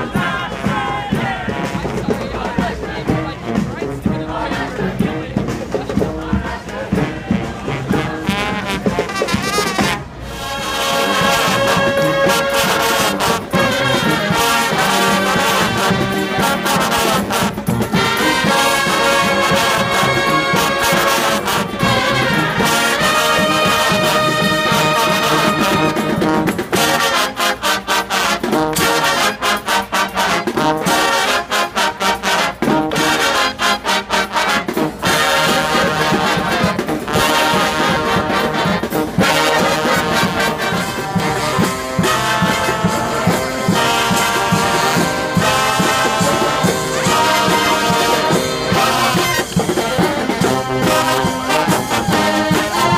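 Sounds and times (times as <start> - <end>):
street brass band playing: 0.0 - 52.9.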